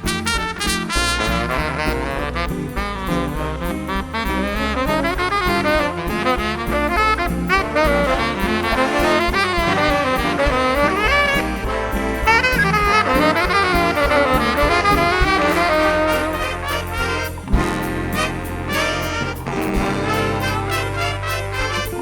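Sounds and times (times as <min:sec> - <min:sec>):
big band playing swing jazz: 0:00.0 - 0:22.0.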